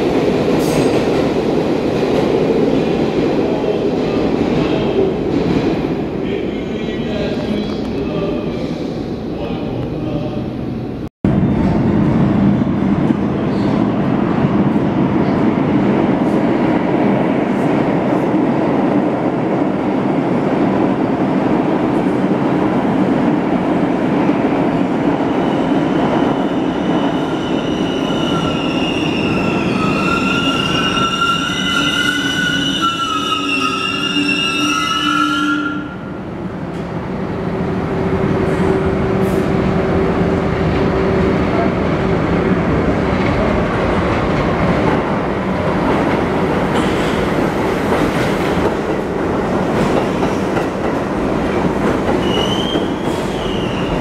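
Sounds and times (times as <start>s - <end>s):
subway trains rumbling: 0.0s - 54.0s.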